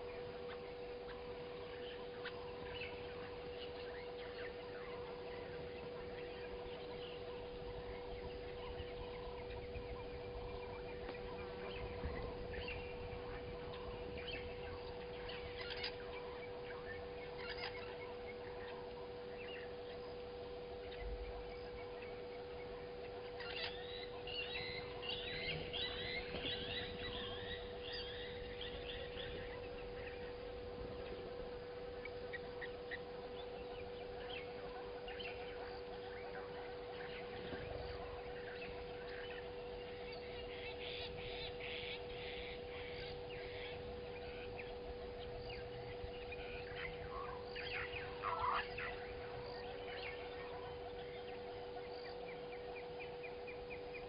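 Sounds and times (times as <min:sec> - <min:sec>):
steady low hum: 0:00.0 - 0:54.0
wild birds calling: 0:00.0 - 0:54.0.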